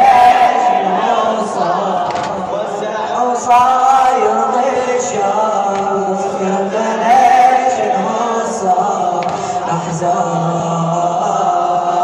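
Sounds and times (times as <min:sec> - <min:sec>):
choir-like backing voices: 0:00.0 - 0:12.0
man singing a mourning chant: 0:00.0 - 0:12.0.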